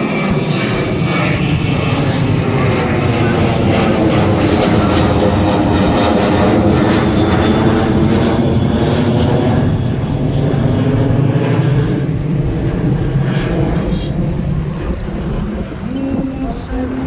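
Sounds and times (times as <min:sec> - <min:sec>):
airliner engines at takeoff: 0:00.0 - 0:17.0.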